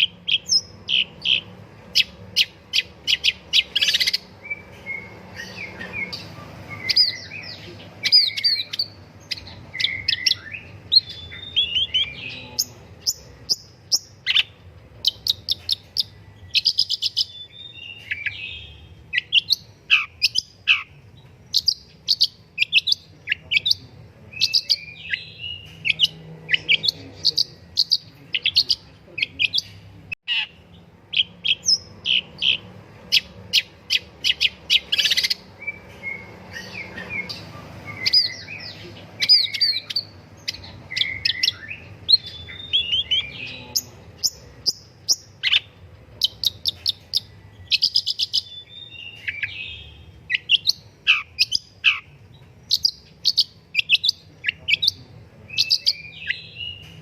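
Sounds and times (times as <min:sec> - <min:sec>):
bird singing sharp chirps and whistles: 0:00.0 - 0:29.7, 0:30.3 - 0:57.0.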